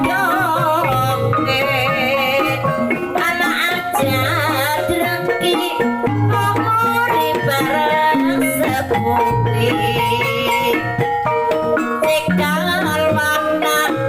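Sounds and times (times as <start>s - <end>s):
high wavering melody: 0.0s - 14.0s
metallophone notes: 0.0s - 14.0s.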